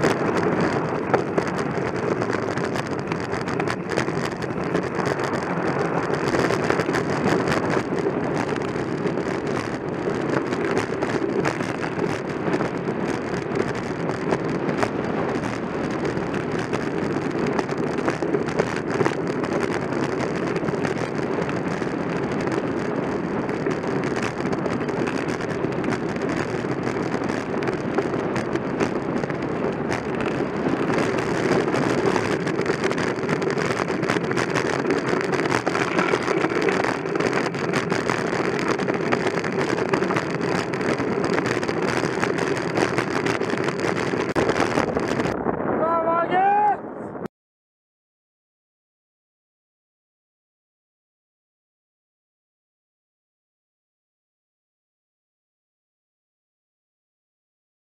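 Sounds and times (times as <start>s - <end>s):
rough rushing wind noise: 0.0s - 47.3s.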